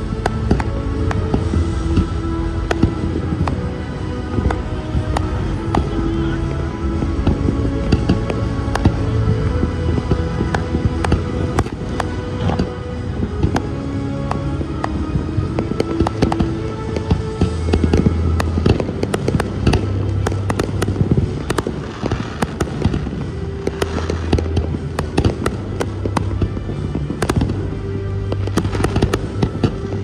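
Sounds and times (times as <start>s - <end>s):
fireworks bursting: 0.0s - 30.0s.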